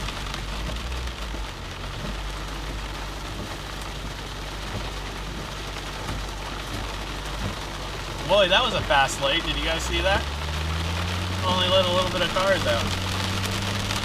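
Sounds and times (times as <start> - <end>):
low engine hum: 0.0 - 14.0
rain on a car: 0.0 - 14.0
tyres on a wet road: 0.0 - 14.0.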